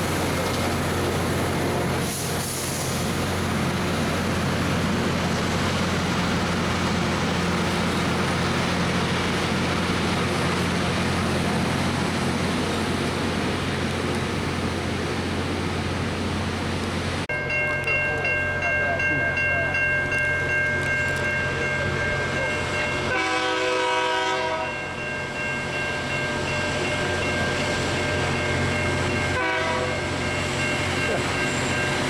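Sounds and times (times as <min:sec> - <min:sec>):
rail grinder grinding: 0:00.0 - 0:32.0.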